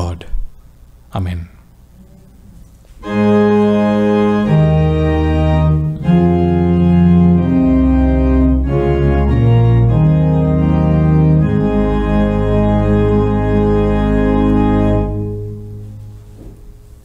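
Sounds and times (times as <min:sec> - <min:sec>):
church organ chords: 0:02.9 - 0:17.0.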